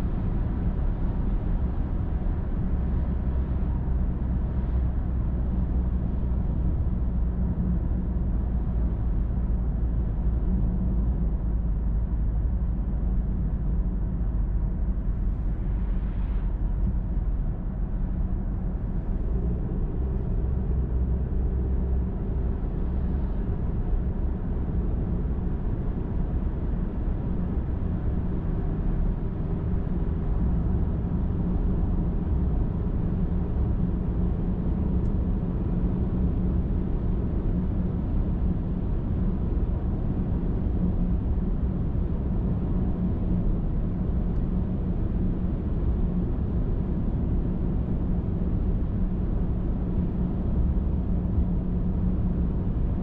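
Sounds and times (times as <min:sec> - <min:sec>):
car engine hum: 0:00.0 - 0:53.0.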